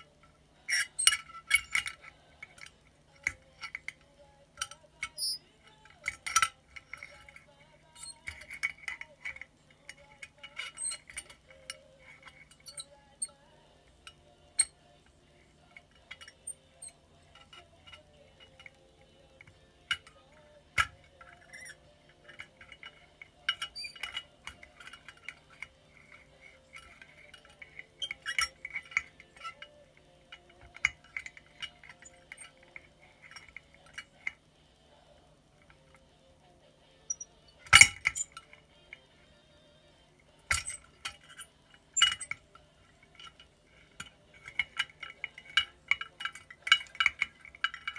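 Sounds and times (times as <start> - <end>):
plastic parts clinking in glass bottle: 0.0 - 13.4, 15.6 - 34.4, 40.4 - 47.9.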